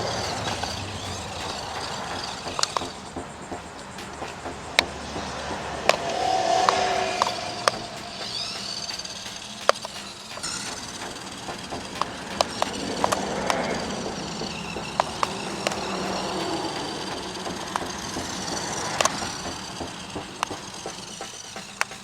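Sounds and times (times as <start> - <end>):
small electric motor whining: 0.0 - 21.9
wheels clicking and knocking: 0.0 - 22.0.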